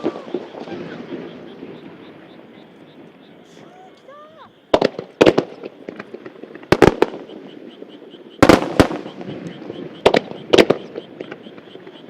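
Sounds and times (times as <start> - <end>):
faint firework crackling: 0.0 - 12.0
firework shells booming: 0.0 - 12.0.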